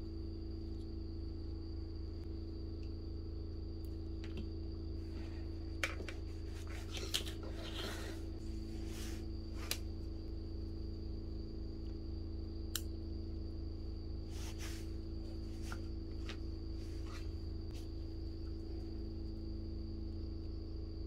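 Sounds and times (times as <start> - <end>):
faint high whine: 0.0 - 21.0
low hum: 0.0 - 21.0.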